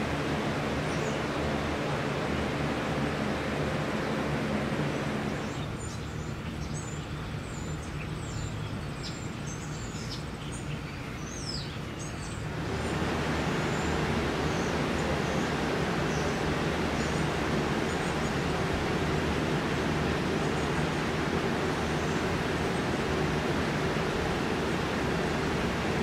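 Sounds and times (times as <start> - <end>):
loud steady noise: 0.0 - 7.8, 11.8 - 26.0
small birds chirping: 0.0 - 26.0
steady low hum: 0.0 - 26.0.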